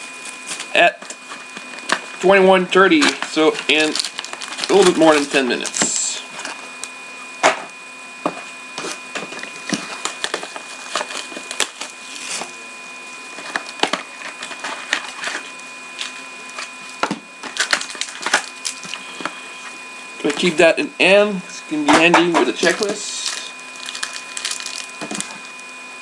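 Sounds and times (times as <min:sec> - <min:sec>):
packaging crinkling and crackling: 0:00.0 - 0:07.0, 0:08.4 - 0:20.6, 0:21.9 - 0:25.8.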